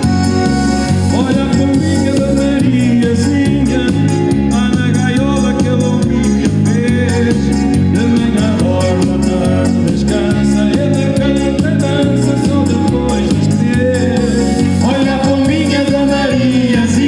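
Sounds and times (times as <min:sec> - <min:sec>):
live band playing dance music: 0:00.0 - 0:17.0.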